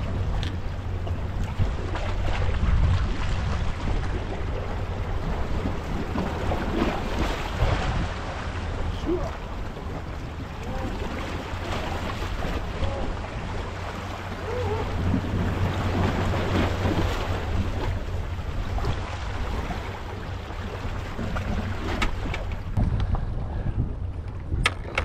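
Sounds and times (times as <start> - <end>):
water lapping against rock: 0.0 - 23.3
wind on the microphone: 0.0 - 25.0.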